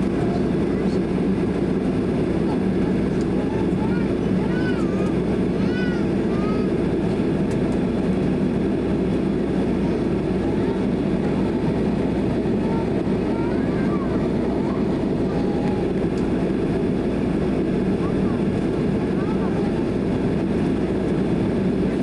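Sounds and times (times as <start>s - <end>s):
aircraft cabin engine hum: 0.0s - 22.0s.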